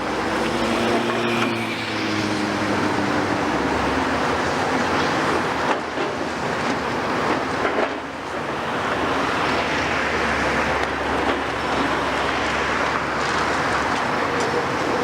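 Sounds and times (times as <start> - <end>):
heavy demolition machinery: 0.9 - 15.0.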